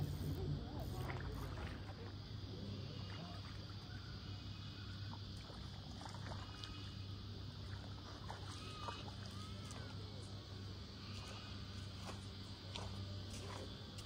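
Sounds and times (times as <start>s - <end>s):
low steady rumble: 0.0s - 14.0s
water lapping around legs: 0.8s - 4.4s, 5.0s - 14.0s.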